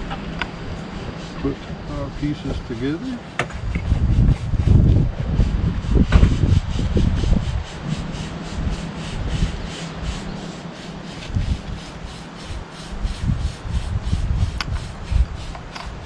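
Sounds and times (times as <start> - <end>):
rhythmic scraping strokes: 0.2 - 16.0.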